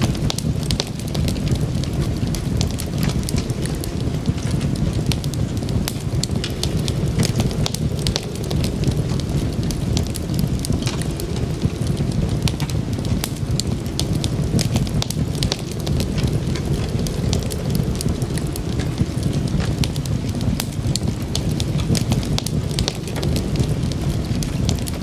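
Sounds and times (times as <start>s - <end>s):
fire crackling and popping: 0.0s - 25.0s
low roar of flames: 0.0s - 25.0s.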